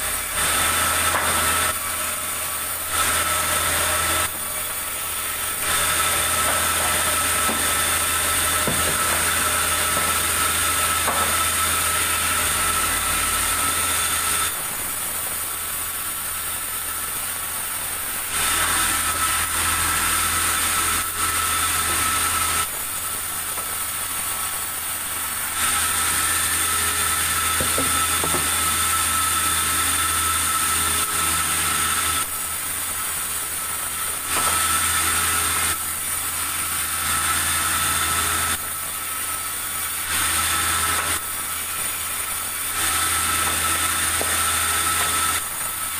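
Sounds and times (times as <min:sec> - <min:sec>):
saw blade whining through wood: 0:00.0 - 0:45.9
sawmill motor humming: 0:00.0 - 0:45.9.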